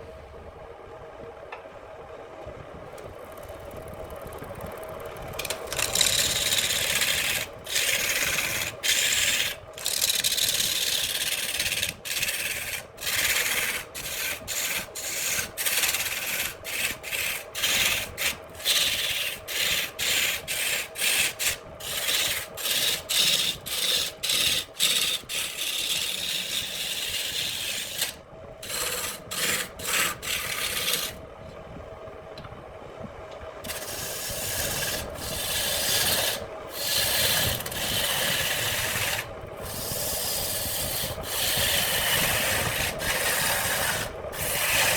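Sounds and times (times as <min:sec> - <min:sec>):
tool scraping spinning wood: 0:04.6 - 0:31.2, 0:33.6 - 0:44.9
wood lathe humming: 0:04.8 - 0:31.2, 0:33.6 - 0:44.9.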